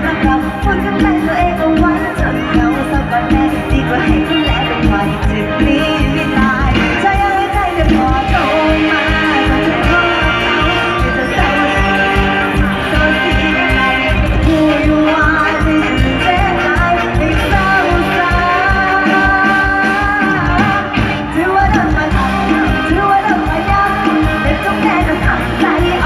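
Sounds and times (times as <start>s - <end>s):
live band music: 0.0s - 26.0s
woman singing: 0.0s - 26.0s.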